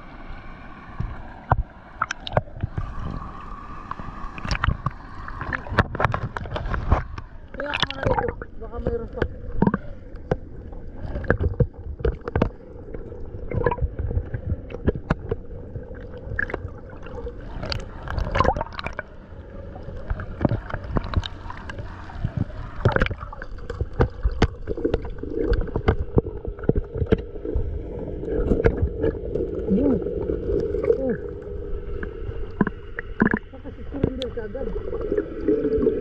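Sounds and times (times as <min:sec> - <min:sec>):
faint steady hum: 0:00.0 - 0:36.0
muffled underwater sloshing: 0:00.0 - 0:36.0.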